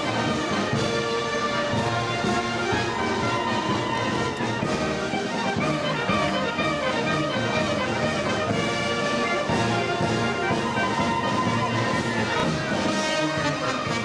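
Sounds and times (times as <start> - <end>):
brass band music: 0.0 - 14.0.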